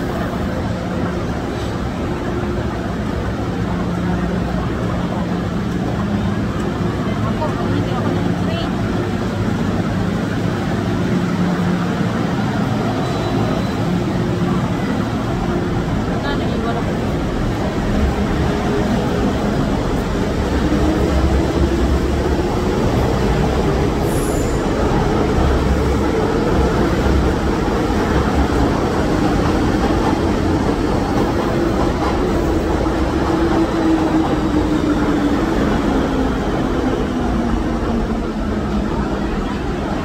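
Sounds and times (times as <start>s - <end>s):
electric train rumbling: 0.0s - 40.0s.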